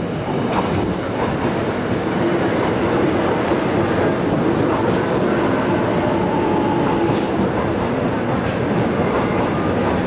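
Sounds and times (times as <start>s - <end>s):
electric train rolling: 0.0s - 10.0s
rumble of wheels on rail: 0.0s - 10.0s.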